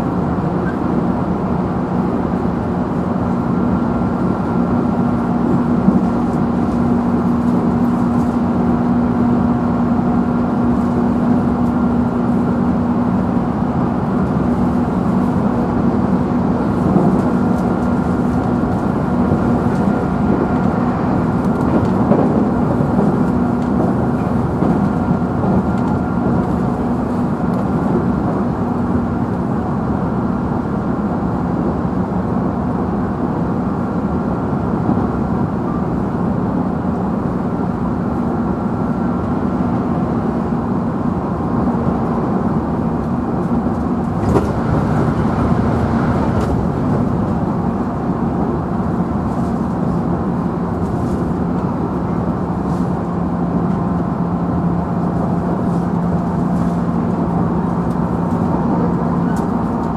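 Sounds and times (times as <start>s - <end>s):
electric train rolling rumble: 0.0s - 59.9s.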